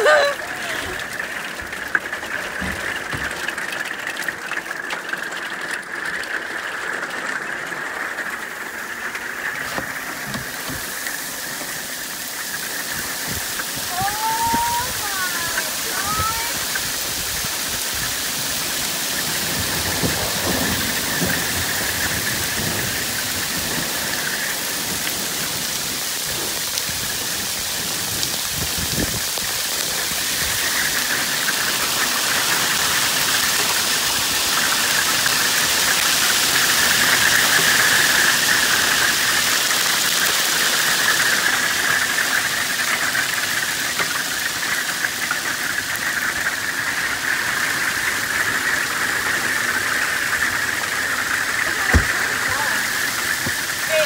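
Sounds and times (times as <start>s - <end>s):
hail pelting on camper roof: 0.0s - 54.0s.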